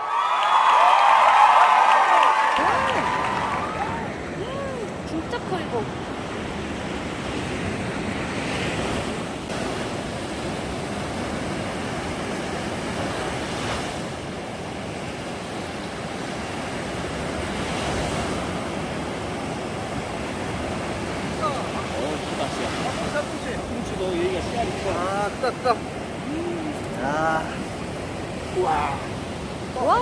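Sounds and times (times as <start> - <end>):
sea waves washing onto beach: 0.0 - 30.0.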